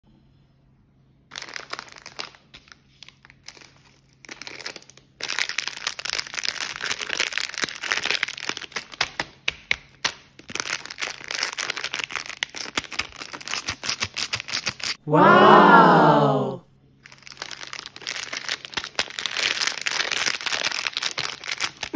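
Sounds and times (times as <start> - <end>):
plastic wrapper crinkling: 1.3 - 15.0, 17.0 - 21.9.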